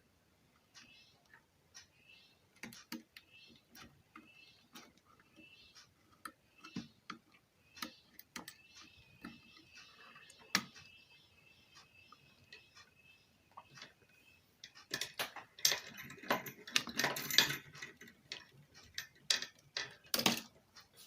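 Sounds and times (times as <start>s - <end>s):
hand tools clicking and tapping: 2.5s - 11.2s, 11.8s - 21.0s.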